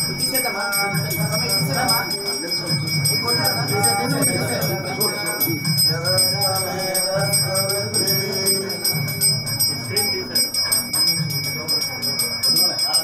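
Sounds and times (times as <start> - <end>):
hand bell ringing rapidly: 0.0 - 13.0.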